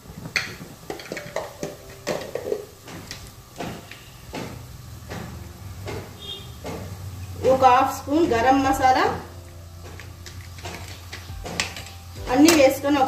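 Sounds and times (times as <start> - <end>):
low steady hum: 0.0 - 13.0
kitchen utensils knocking: 0.3 - 7.6, 9.8 - 13.0.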